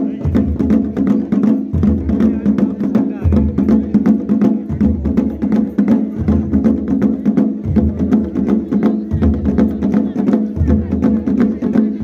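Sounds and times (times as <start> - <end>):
deep drum beat: 0.0 - 12.0
fast drumming: 0.0 - 12.0.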